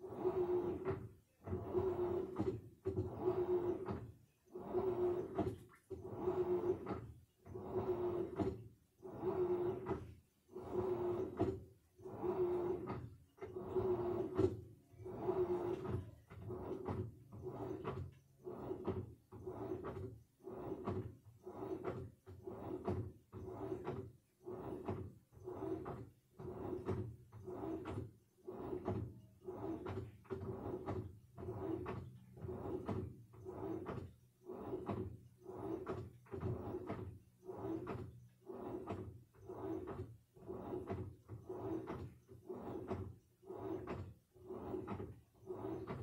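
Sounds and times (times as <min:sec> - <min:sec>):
washing machine water sloshing: 0:00.0 - 0:46.0.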